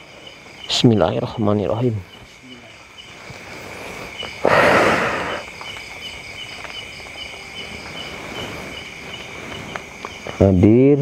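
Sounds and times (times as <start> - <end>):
insect chirping: 0.0 - 11.0
insect drone: 0.0 - 11.0.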